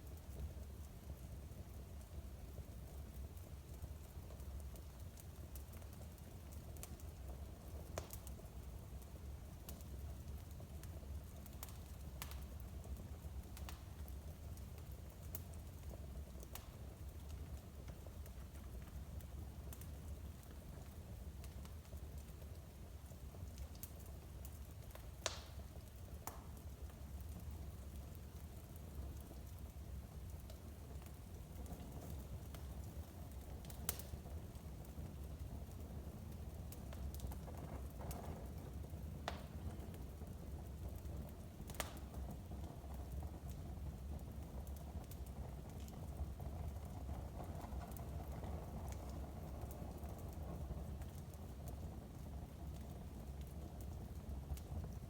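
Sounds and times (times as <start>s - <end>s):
fire popping: 0.0s - 55.0s
low fire rumble: 0.0s - 55.0s
wood fire crackling: 0.0s - 55.0s.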